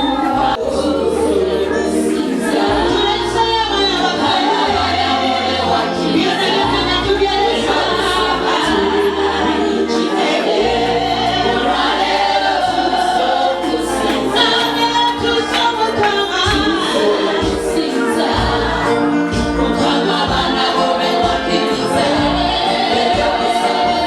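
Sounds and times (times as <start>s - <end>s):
choir singing gospel: 0.0s - 24.0s
instrumental backing with bass: 0.0s - 24.0s.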